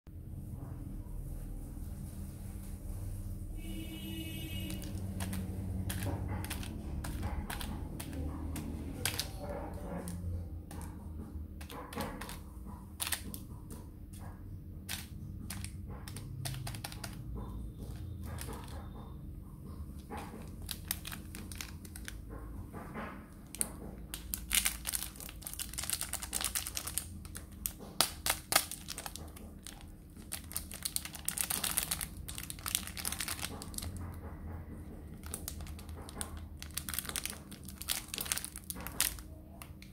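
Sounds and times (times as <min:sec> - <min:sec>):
plastic candy wrappers crinkling: 0:03.6 - 0:18.8, 0:20.0 - 0:22.4, 0:23.4 - 0:34.2, 0:35.1 - 0:39.9.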